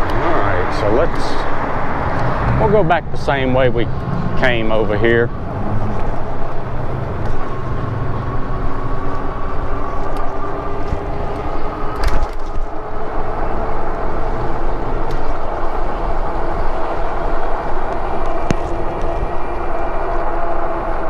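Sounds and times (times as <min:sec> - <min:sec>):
faint motor whine: 0:00.0 - 0:21.0
wind rush and road noise: 0:00.0 - 0:21.0.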